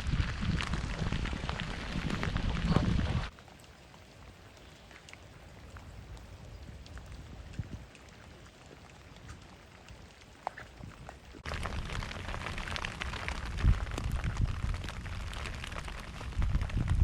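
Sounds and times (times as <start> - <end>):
rain rushing: 0.0 - 10.4, 11.4 - 17.0
faint raindrop ticks: 0.0 - 17.0
rain pattering: 0.0 - 17.0.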